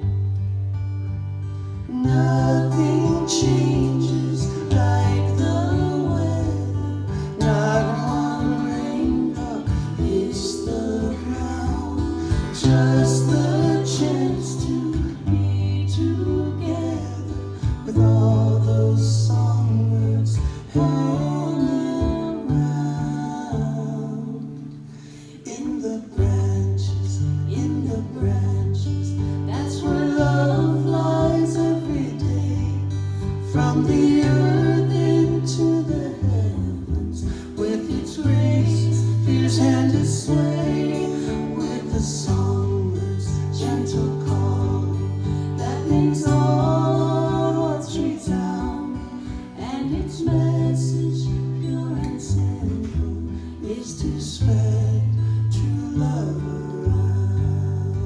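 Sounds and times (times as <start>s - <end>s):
acoustic guitar lullaby: 0.0s - 58.0s.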